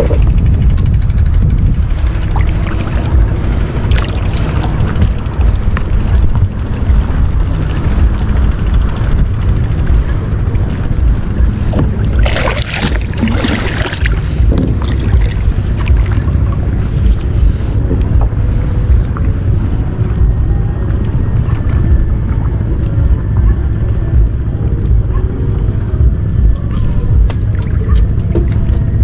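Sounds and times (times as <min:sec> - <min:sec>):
rough sea water noise: 0:00.0 - 0:29.0
wind buffeting microphone: 0:00.0 - 0:29.0.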